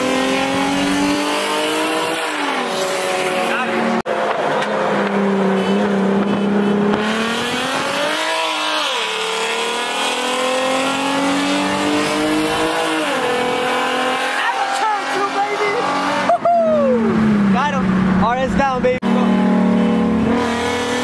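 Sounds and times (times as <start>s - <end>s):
car engine accelerating hard: 0.0s - 21.0s
road and wind noise: 0.0s - 21.0s.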